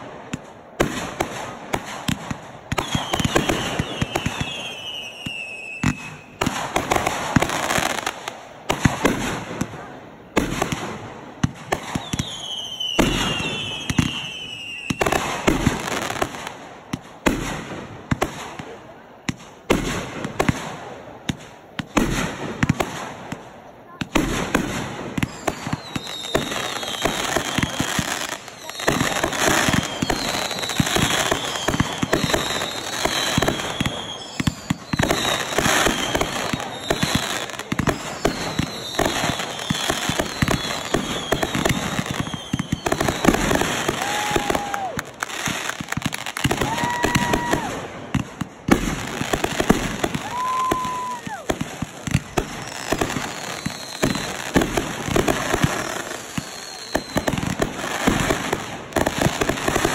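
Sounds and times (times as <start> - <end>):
fireworks bangs and crackling: 0.0 - 59.9
long low firework whistles: 0.3 - 9.9, 10.5 - 19.4, 24.4 - 59.9.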